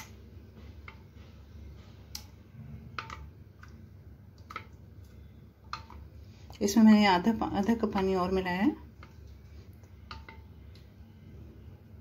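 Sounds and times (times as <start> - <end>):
spoon stirring batter: 0.0 - 11.4.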